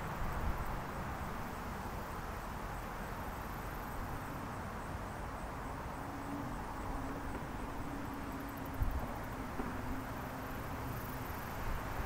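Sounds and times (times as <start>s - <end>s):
wind through trees: 0.0s - 12.0s.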